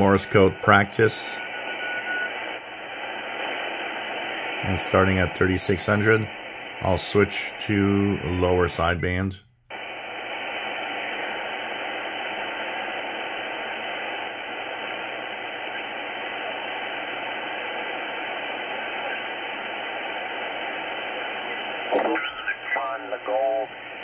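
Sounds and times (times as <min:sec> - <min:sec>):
radio band noise hiss: 0:00.0 - 0:24.0.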